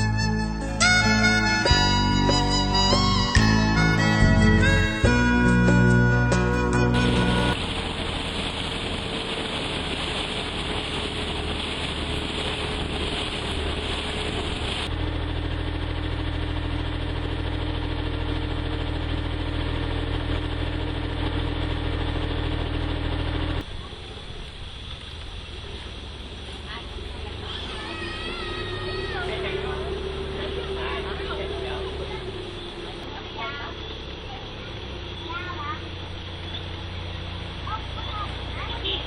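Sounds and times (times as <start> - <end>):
engine humming steadily: 0.0 - 39.0.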